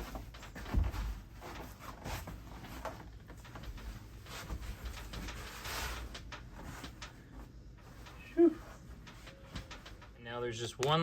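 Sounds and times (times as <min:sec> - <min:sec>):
rustling: 0:00.0 - 0:10.4.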